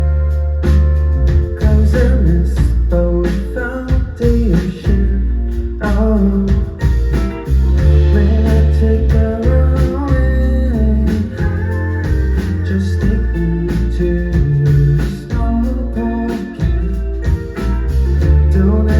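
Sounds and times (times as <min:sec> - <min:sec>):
person singing: 0:00.0 - 0:07.0, 0:07.7 - 0:18.9
electric guitar: 0:00.0 - 0:18.9
heavy bass: 0:00.0 - 0:18.9
steady drum beat: 0:00.0 - 0:18.9.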